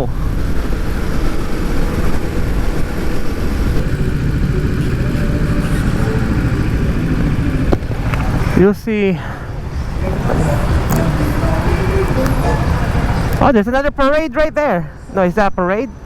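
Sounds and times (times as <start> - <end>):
motorcycle engine running: 0.0 - 13.4
road and wind noise: 0.0 - 16.0.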